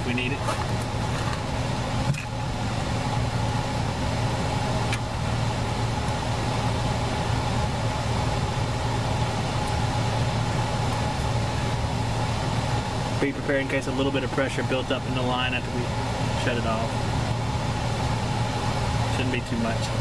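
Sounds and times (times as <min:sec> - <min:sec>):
electric fan humming: 0:00.0 - 0:20.0.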